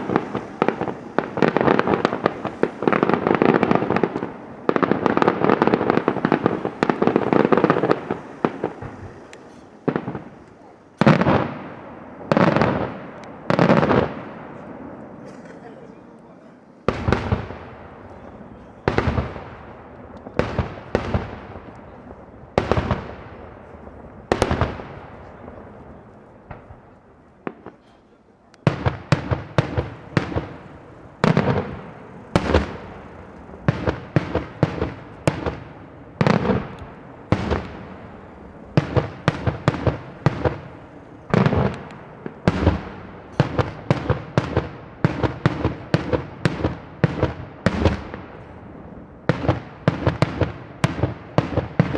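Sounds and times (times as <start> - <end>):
fireworks bursting with bangs: 0.0 - 15.3, 16.7 - 51.9.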